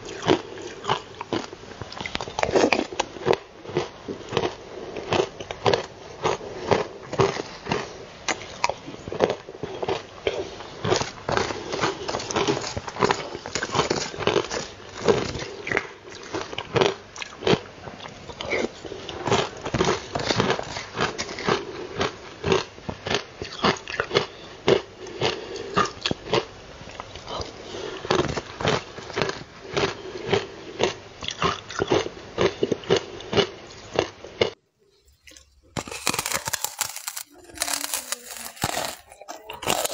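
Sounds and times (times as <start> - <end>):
ice crunching in mouth: 0.0 - 39.9.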